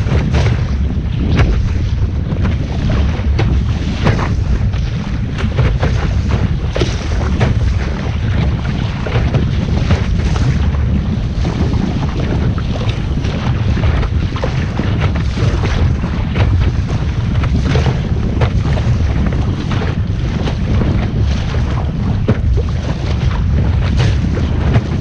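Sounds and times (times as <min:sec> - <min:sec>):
heavy rumble: 0:00.0 - 0:25.0
water splashing and slapping: 0:00.0 - 0:25.0
wind buffeting microphone: 0:00.0 - 0:25.0.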